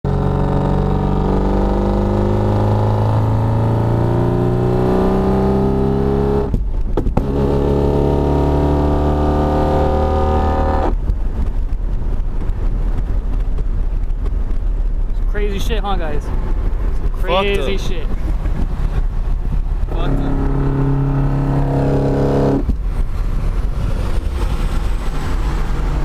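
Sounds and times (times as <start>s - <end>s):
car engine accelerating: 0.1s - 11.2s, 16.2s - 26.0s.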